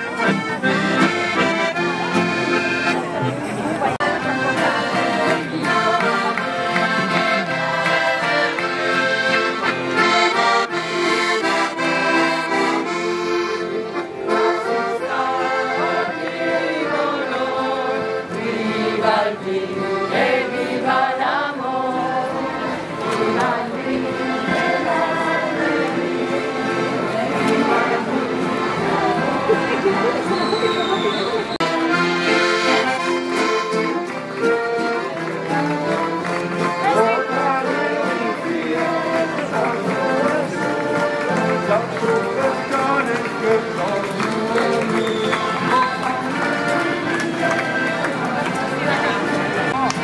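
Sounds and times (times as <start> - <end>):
accordions playing folk dance tune: 0.0 - 50.0.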